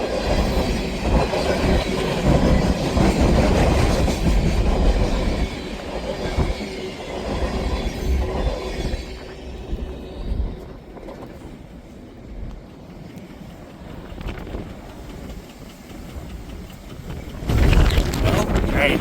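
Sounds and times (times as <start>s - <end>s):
freight train rumbling on rails: 0.0s - 19.0s.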